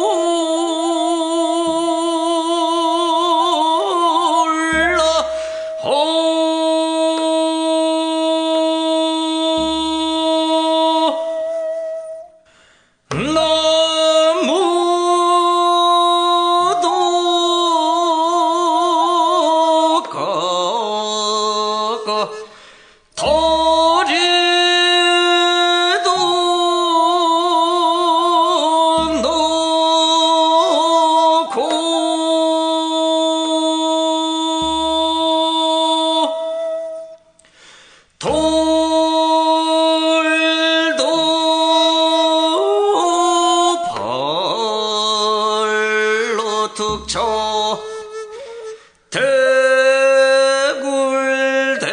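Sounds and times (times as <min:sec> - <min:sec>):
man singing with wide vibrato: 0:00.0 - 0:12.4, 0:13.0 - 0:51.9.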